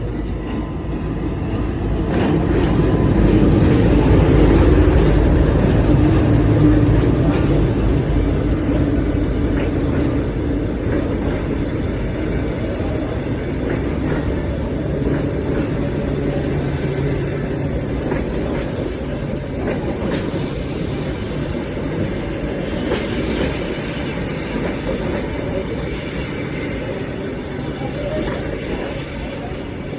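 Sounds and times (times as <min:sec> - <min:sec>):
train wheels rumbling: 0:00.0 - 0:29.9.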